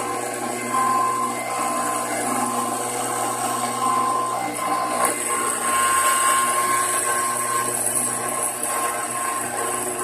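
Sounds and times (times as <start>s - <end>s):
cutter cutting metal: 0.0s - 10.0s
spindle high-pitched whine: 0.0s - 10.0s.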